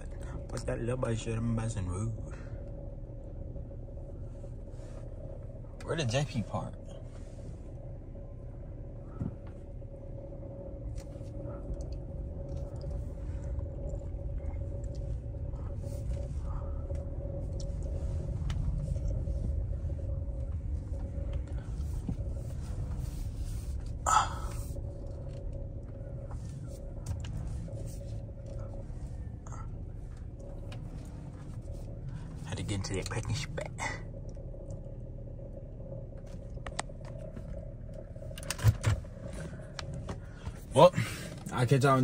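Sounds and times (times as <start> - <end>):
car engine and tyre rumble: 0.0 - 42.0.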